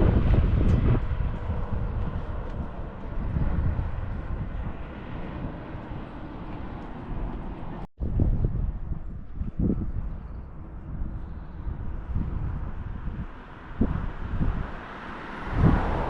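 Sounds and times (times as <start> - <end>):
bus engine rumbling: 0.0 - 16.0
road noise: 0.0 - 16.0.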